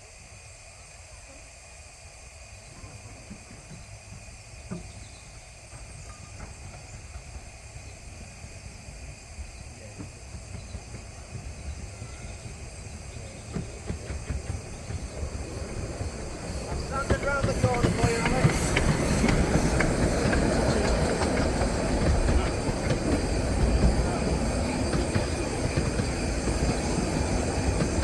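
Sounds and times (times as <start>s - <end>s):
low rumble of locomotive: 0.0s - 28.0s
steam hiss: 0.0s - 28.0s.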